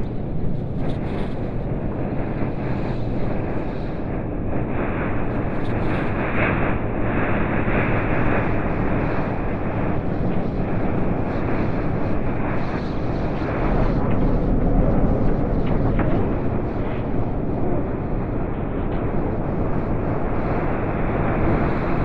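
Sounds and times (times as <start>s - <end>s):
roar of gusting wind: 0.0s - 22.0s.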